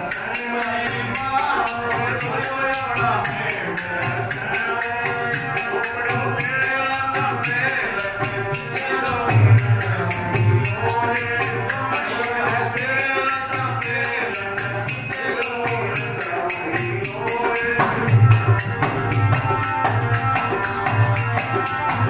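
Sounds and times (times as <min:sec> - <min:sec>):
harmonium: 0:00.0 - 0:22.0
jingling hand percussion: 0:00.0 - 0:22.0
hand drum beat: 0:03.0 - 0:22.0.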